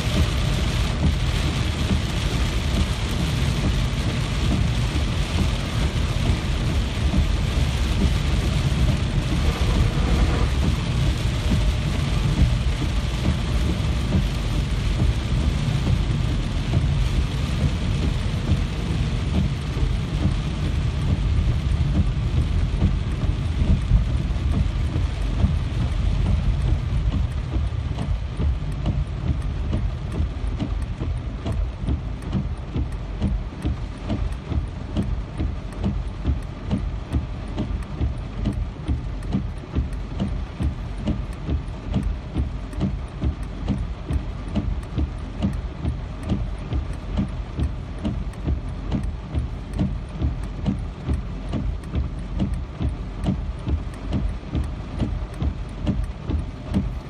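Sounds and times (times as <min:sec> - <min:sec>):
deep low rumble: 0:00.0 - 0:57.0
heavy rain falling: 0:00.0 - 0:57.0.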